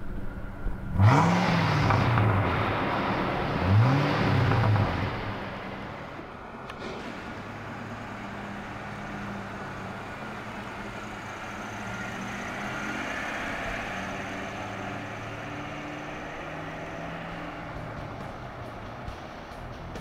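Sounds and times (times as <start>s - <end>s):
car engine driving past: 0.0s - 20.0s.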